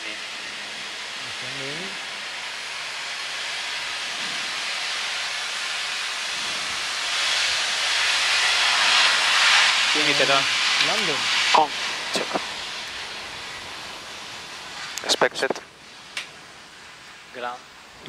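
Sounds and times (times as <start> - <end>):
electric fans rushing hiss: 0.0 - 18.0.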